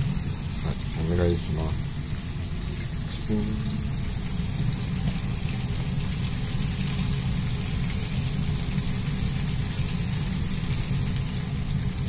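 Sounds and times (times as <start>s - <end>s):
oil sizzling while deep-frying: 0.0s - 12.0s.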